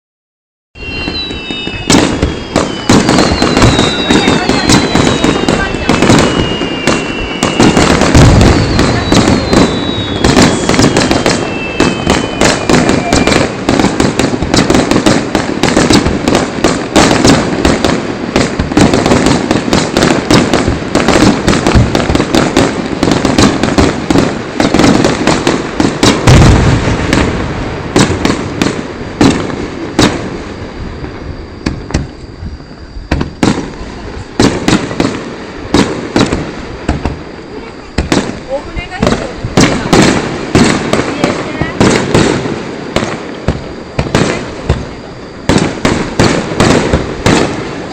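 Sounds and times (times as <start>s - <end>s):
deep firework boom: 0.8s - 47.9s
fireworks bangs and pops: 0.8s - 47.9s.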